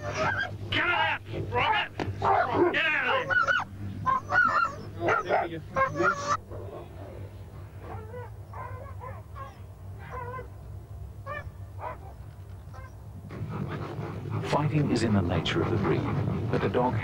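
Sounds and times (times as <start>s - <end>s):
dogs yelping in a fight: 0.0s - 10.6s, 11.2s - 14.6s, 15.3s - 17.0s.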